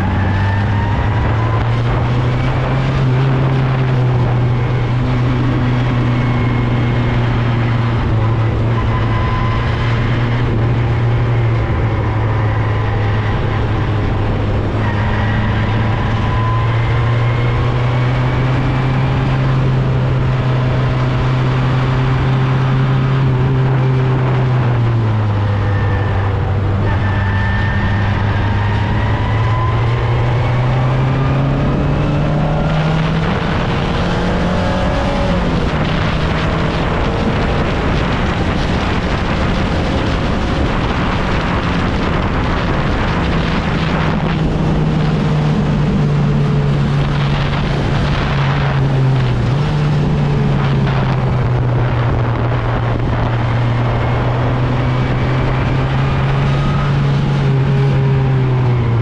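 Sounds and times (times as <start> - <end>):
race car engine revving: 0.0 - 59.0
wind and road noise: 0.0 - 59.0.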